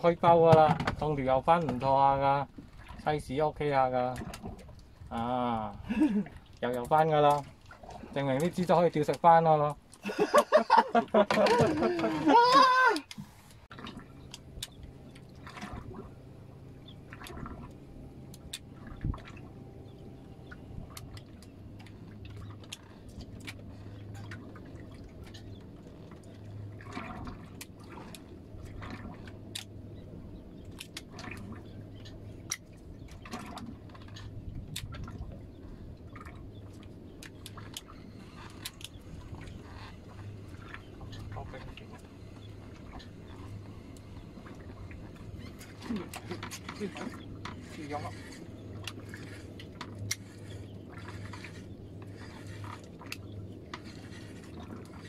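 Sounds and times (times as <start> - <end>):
low steady hum: 0.0 - 55.0
water lapping against boat hull: 0.0 - 55.0.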